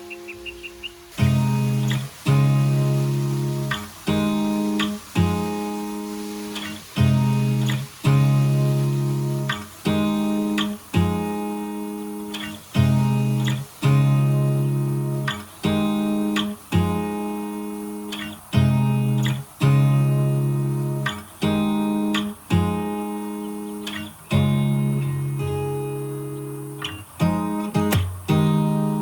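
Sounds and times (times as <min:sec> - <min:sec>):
strummed acoustic guitar chords: 0:00.0 - 0:29.0.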